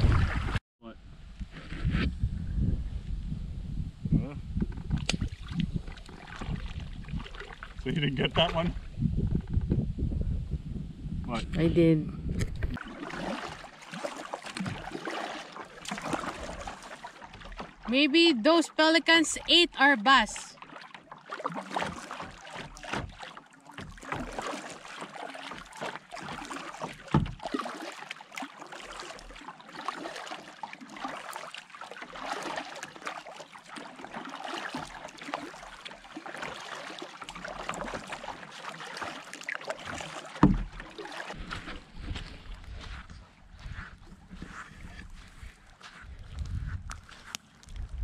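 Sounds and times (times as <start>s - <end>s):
water lapping against kayak hull: 0.0s - 0.6s, 4.5s - 48.0s.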